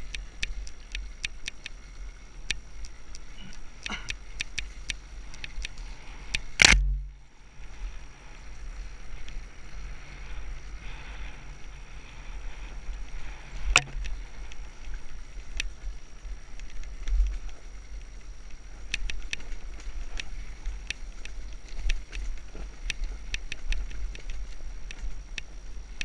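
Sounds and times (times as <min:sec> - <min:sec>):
dirt bike engine: 0:00.0 - 0:26.0
wind rumbling on microphone: 0:00.0 - 0:26.0.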